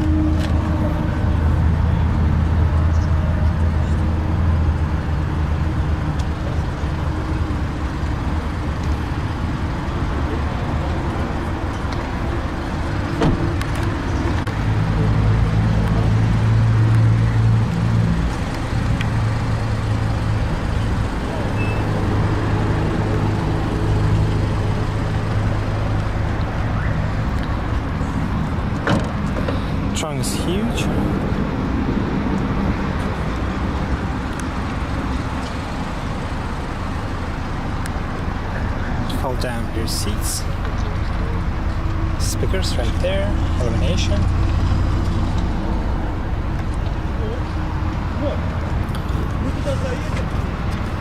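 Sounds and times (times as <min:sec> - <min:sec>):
vehicle engine humming: 0:00.0 - 0:51.0.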